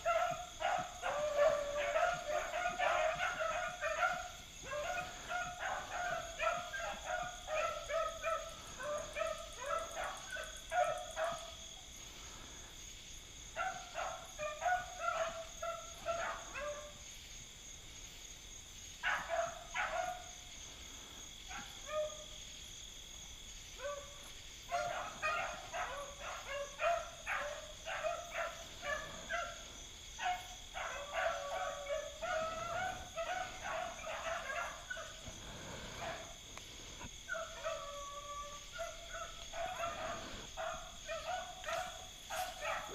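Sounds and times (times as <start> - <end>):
beagles baying: 0.0 - 12.6, 13.6 - 17.0, 23.8 - 42.9.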